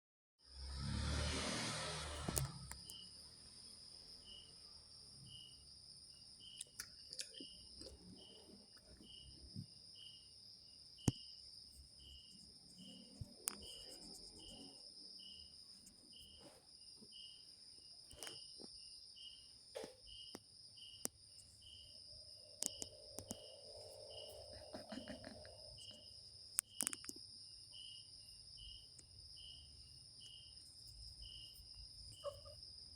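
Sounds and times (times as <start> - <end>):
crickets chirping: 0.5 - 32.9.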